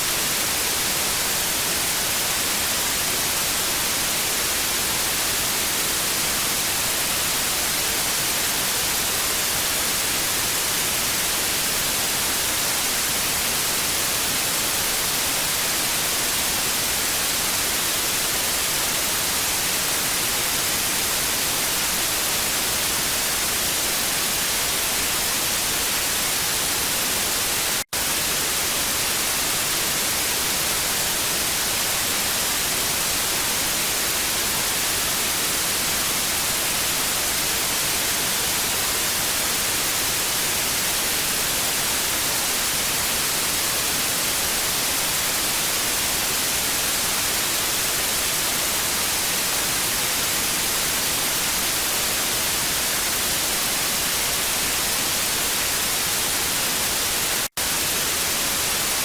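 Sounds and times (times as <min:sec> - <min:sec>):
television static hiss: 0:00.0 - 0:59.0.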